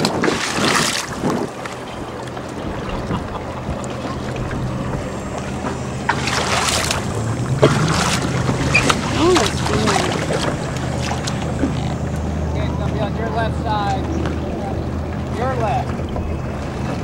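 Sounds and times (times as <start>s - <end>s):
water noise: 0.0s - 17.0s
watercraft engine running: 0.0s - 17.0s
wind: 0.0s - 17.0s.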